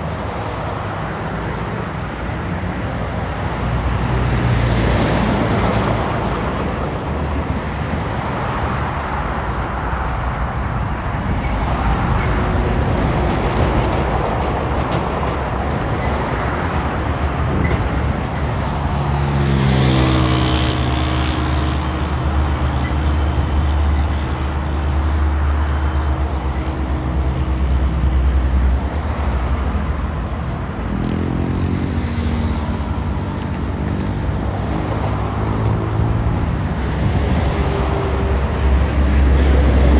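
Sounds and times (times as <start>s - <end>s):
traffic passing: 0.0s - 39.9s.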